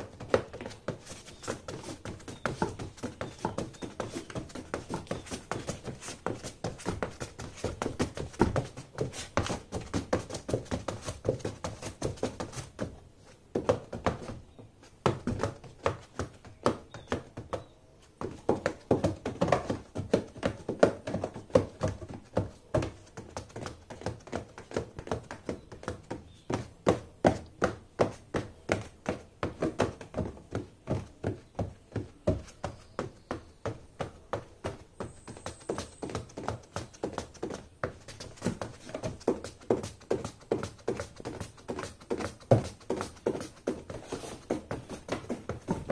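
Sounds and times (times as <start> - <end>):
high heels tapping on cardboard box: 0.0 - 45.9.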